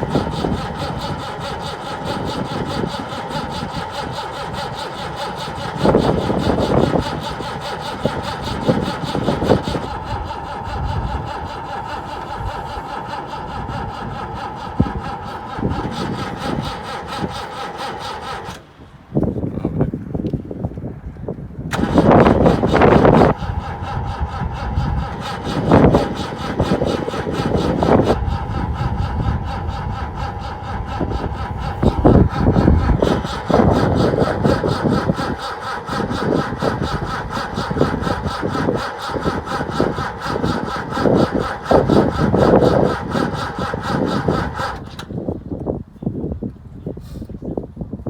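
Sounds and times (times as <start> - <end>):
starter motor cranking engine: 0.0 - 18.8, 21.6 - 45.8.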